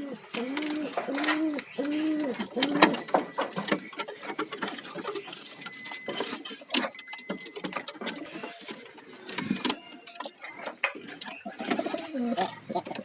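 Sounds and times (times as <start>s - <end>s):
rapid clicking and rattling: 0.1s - 13.0s.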